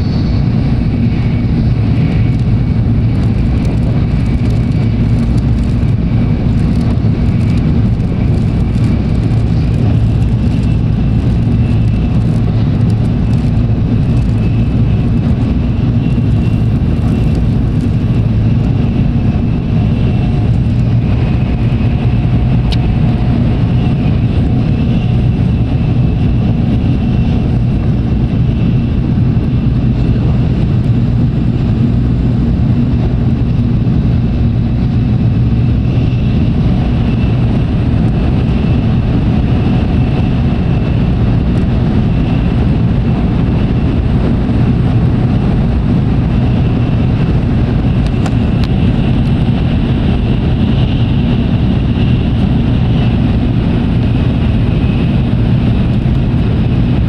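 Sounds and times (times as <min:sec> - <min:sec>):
train running rumble and hum: 0:00.0 - 0:57.0.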